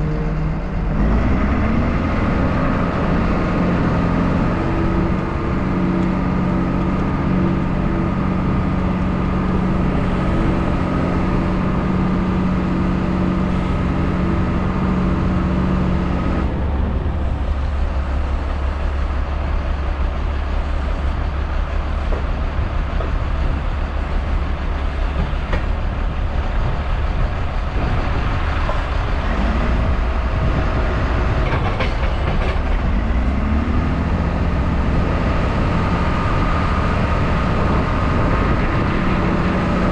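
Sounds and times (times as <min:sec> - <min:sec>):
deep rough rumble: 0:00.0 - 0:39.9
heavy diesel engine running: 0:00.0 - 0:39.9.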